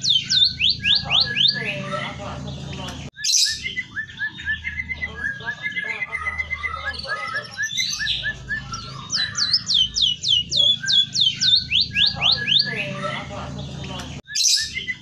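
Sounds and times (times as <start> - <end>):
songbird quick chirps: 0.0 - 15.0.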